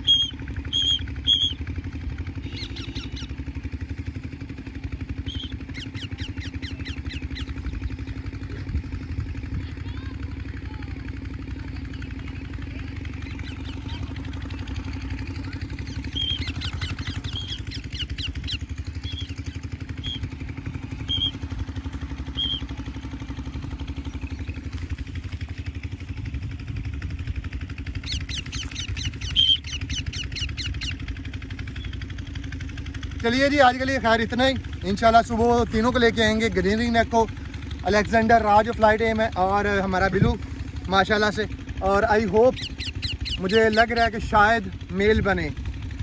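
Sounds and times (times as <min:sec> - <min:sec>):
chattering bird calls: 0:00.0 - 0:09.1, 0:11.2 - 0:40.2, 0:40.9 - 0:45.2
engine droning: 0:00.0 - 0:46.0.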